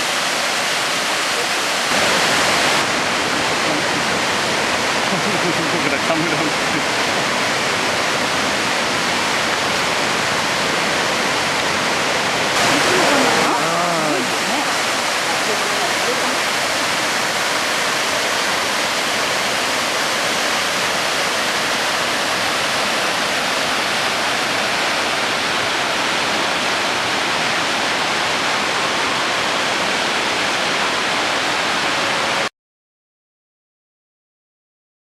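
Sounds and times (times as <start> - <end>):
waterfall pouring and splashing: 0.0 - 32.5.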